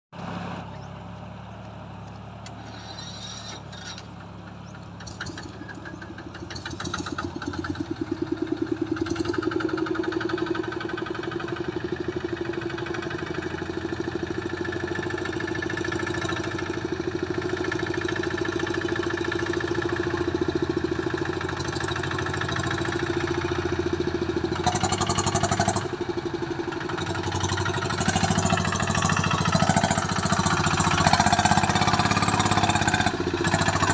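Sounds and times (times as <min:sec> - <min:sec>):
vehicle engine revving under load: 0:00.2 - 0:33.9.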